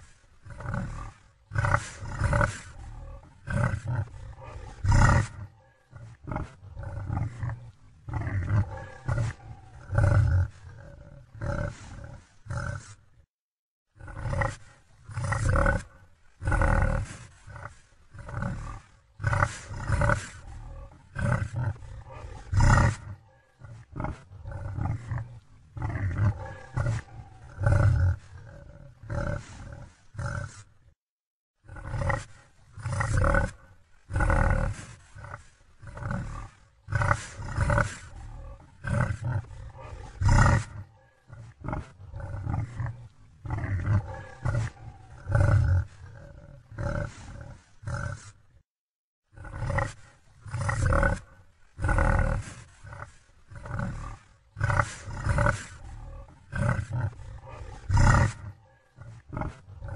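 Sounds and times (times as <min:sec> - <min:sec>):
deep animal growls and roars: 0:00.0 - 0:13.3, 0:13.9 - 0:31.0, 0:31.6 - 0:48.6, 0:49.2 - 0:59.9.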